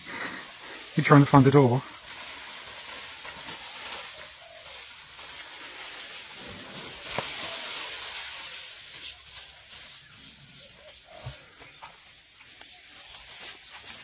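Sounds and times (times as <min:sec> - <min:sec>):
jungle ambience hissing: 0:00.0 - 0:14.0
rustling vegetation: 0:00.0 - 0:14.0.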